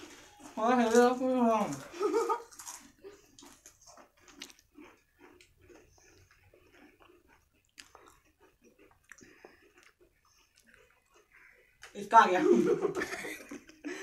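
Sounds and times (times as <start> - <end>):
potato chips crunching: 0.0 - 12.0.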